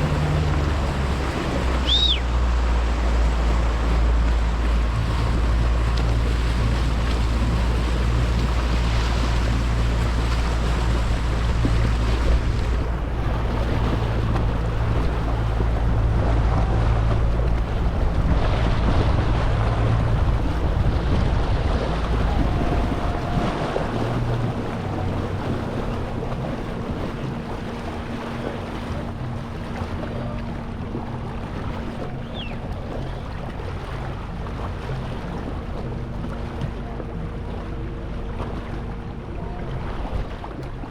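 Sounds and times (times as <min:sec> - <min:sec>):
boat motor running: 0:00.0 - 0:40.9
rushing water: 0:00.0 - 0:40.9
wind: 0:00.0 - 0:40.9.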